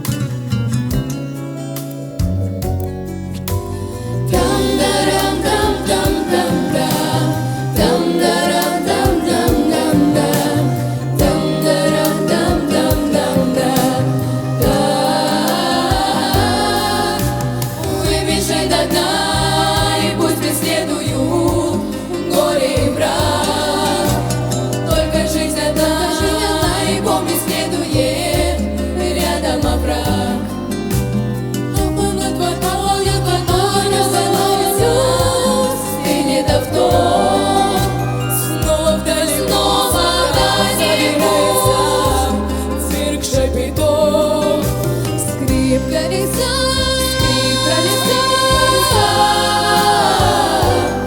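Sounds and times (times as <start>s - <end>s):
group singing with instruments: 3.7s - 51.0s.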